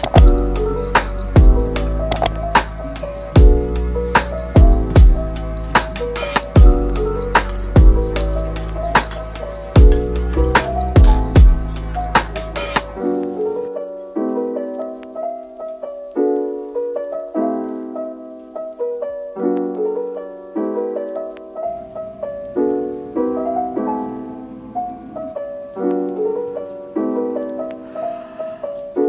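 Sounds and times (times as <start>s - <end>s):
soft piano chords: 0.0s - 29.0s.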